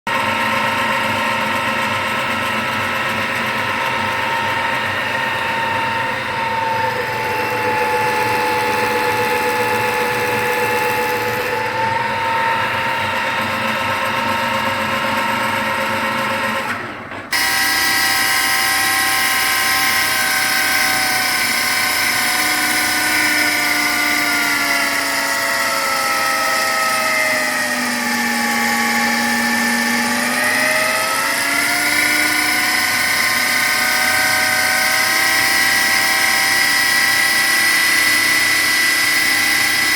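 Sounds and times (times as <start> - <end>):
power steering pump whining: 0.1 - 39.9.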